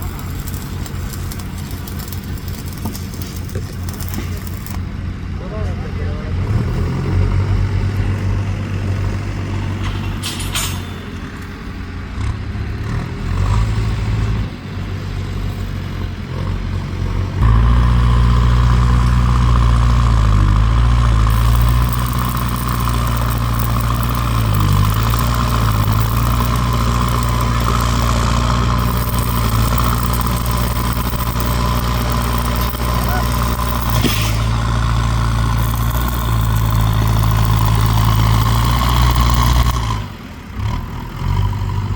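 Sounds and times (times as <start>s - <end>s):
vehicle engine running: 0.0s - 10.8s, 11.4s - 41.9s.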